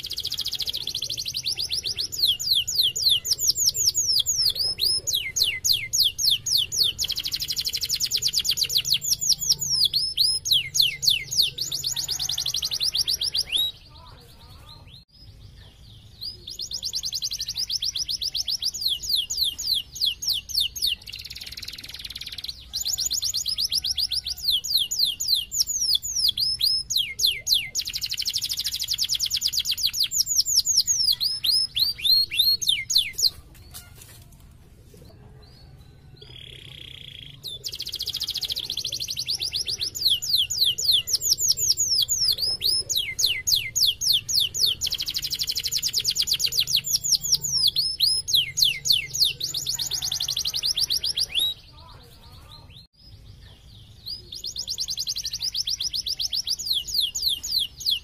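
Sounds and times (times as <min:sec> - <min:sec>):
canary singing: 0:00.0 - 0:34.2, 0:35.0 - 0:58.0.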